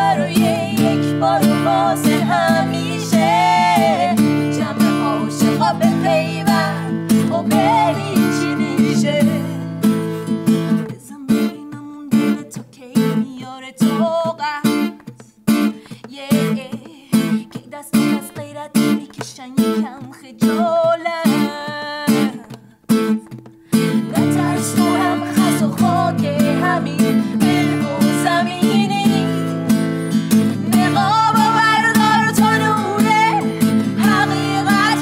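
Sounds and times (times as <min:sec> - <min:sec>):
women singing: 0:00.0 - 0:09.8, 0:10.9 - 0:15.2, 0:15.9 - 0:22.7, 0:23.8 - 0:35.0
acoustic guitar strumming: 0:00.0 - 0:35.0.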